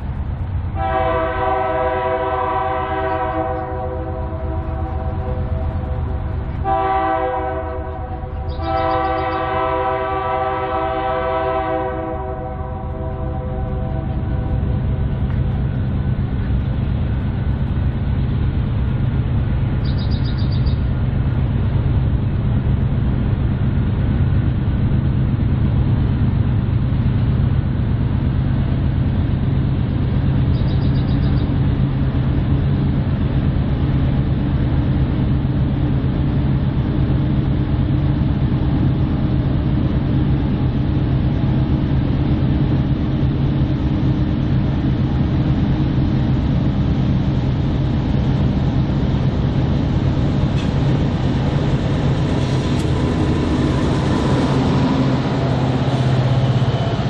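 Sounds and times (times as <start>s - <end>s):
diesel locomotive rumbling: 0.0s - 57.0s.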